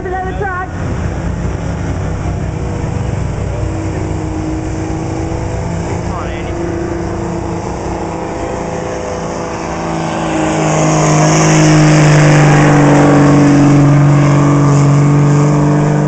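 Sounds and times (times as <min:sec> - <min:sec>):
diesel engine running flat out: 0:00.0 - 0:16.0.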